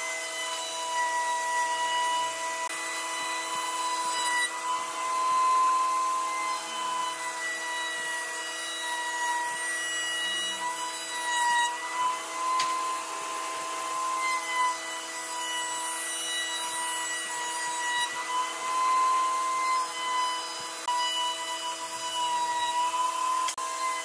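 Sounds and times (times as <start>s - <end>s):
power tool motor whining on wood: 0.0s - 24.0s.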